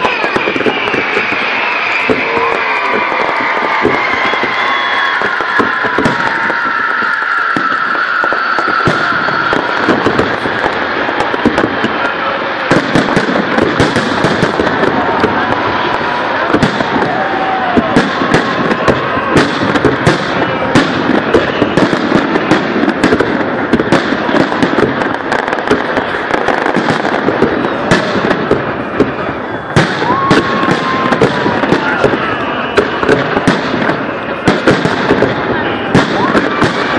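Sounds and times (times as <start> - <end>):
fireworks cracking bangs: 0.0 - 36.9
onlookers' voices: 0.0 - 36.9.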